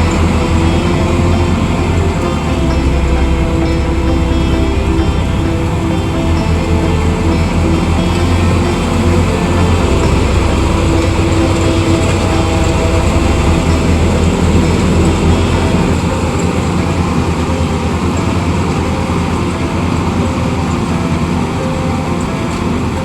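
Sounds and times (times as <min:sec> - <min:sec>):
harvester engine droning: 0:00.0 - 0:23.0.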